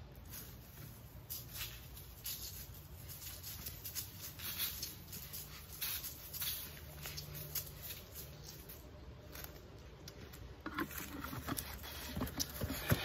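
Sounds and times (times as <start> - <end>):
granular mix pattering onto dirt: 0.0 - 13.0.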